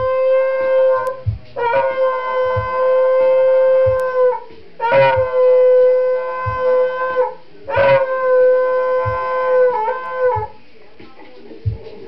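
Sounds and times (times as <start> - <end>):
dog howling: 0.0 - 10.6
music: 0.0 - 12.0.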